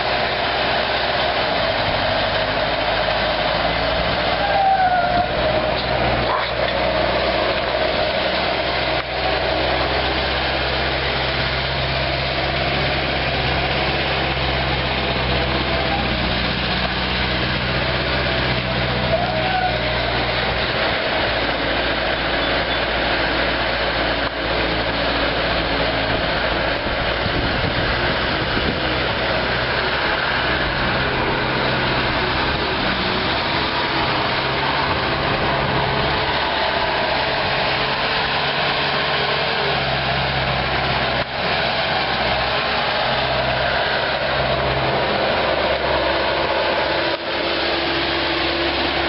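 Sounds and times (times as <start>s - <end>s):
skid steer engine running: 0.0s - 49.0s.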